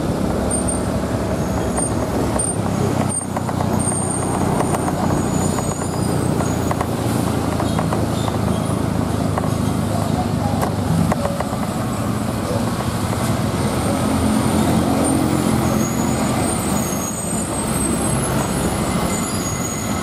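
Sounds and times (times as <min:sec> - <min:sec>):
traffic tyre and engine noise: 0:00.0 - 0:20.0.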